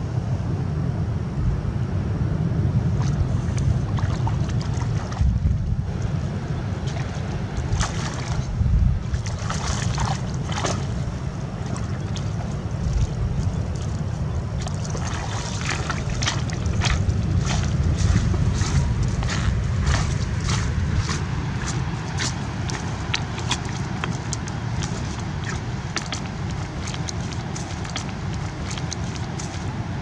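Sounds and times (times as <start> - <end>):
wind on microphone: 0.0 - 30.0
footsteps through shallow water: 2.8 - 30.0
fish thrashing: 2.9 - 30.0
water splashing: 2.9 - 30.0.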